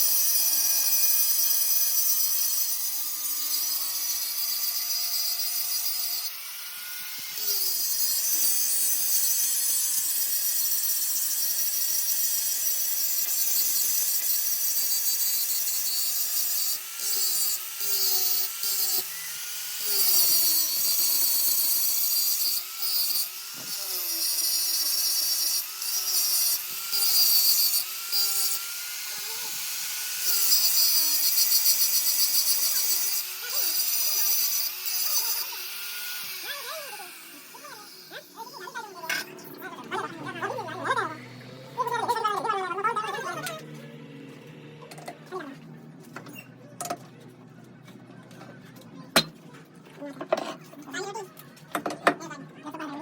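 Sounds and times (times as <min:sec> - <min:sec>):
power tool working metal: 0:00.0 - 0:47.2.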